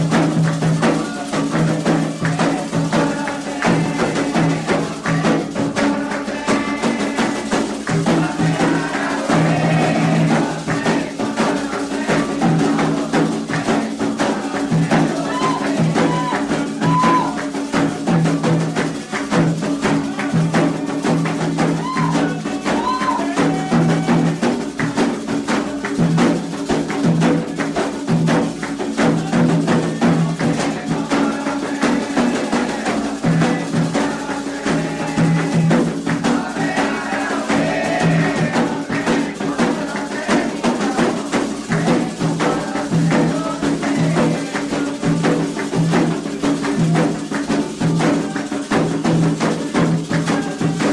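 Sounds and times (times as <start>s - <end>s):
hand drums playing fast rhythm: 0.0s - 50.9s.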